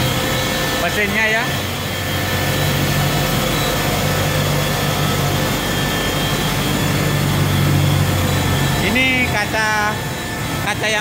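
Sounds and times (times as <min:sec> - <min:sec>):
grinding-wheel motors humming: 0:00.0 - 0:11.0.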